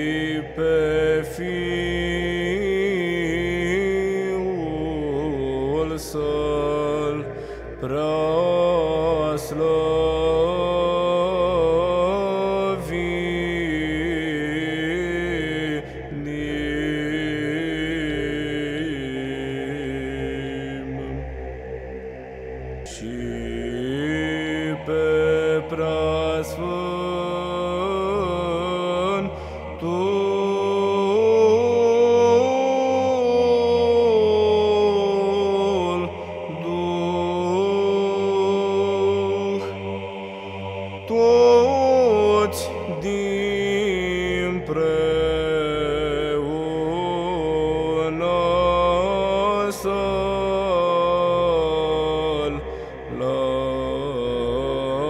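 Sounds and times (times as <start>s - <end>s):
low sung drone: 0.0s - 55.0s
person chanting long ornamented notes: 0.0s - 55.0s.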